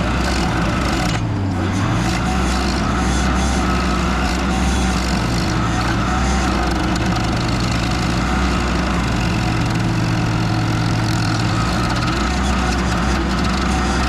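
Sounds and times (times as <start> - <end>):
loud engine drone: 0.0 - 14.0.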